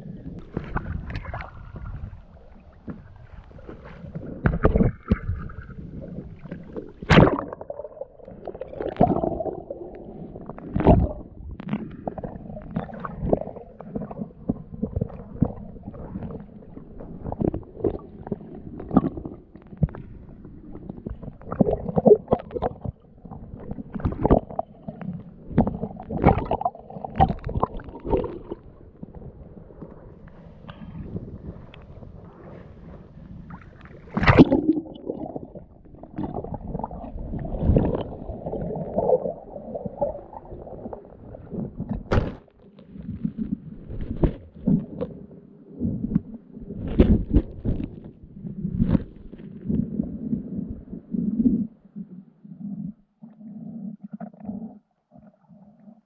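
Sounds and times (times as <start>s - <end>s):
water splashing against kayak: 0.3s - 51.6s.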